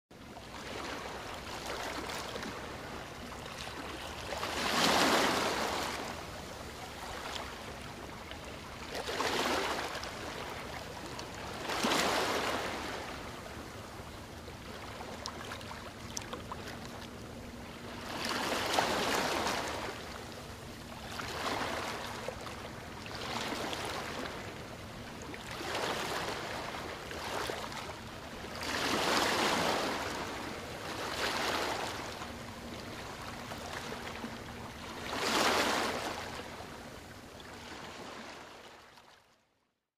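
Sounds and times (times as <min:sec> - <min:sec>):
waves washing up a beach: 0:00.4 - 0:17.2, 0:17.8 - 0:38.7.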